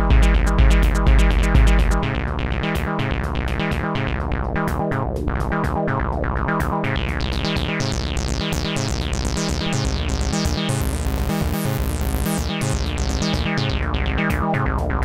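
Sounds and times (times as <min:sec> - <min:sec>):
synthesizer techno bassline: 0:00.0 - 0:15.0.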